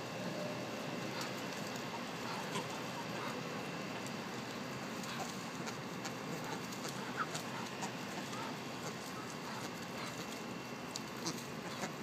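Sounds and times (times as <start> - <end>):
steady background hiss: 0.0 - 12.0
bills and feet rustling in leaves: 0.8 - 12.0.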